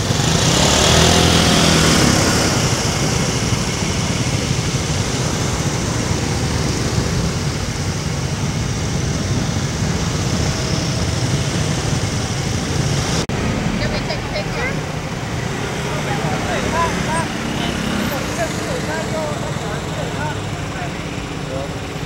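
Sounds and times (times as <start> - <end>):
low engine hum: 0.0 - 22.0
road traffic noise: 0.0 - 22.0.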